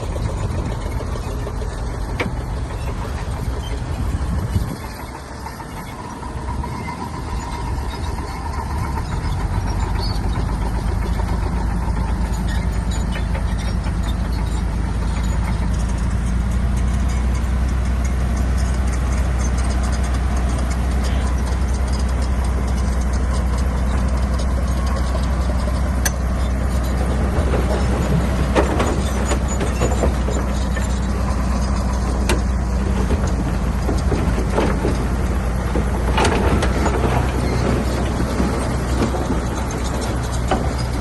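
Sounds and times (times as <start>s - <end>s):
bulldozer diesel engine droning: 0.0s - 41.0s.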